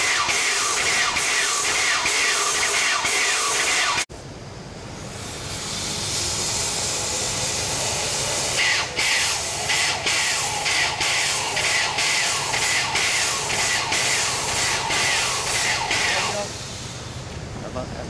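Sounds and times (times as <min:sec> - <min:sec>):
steam locomotive hissing: 0:00.0 - 0:04.1, 0:04.9 - 0:17.8.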